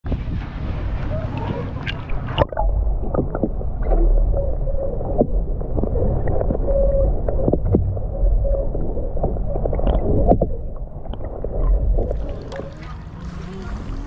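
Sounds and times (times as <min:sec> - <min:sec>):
faint hums: 0:00.1 - 0:14.0
muffled underwater rumble: 0:00.1 - 0:14.0.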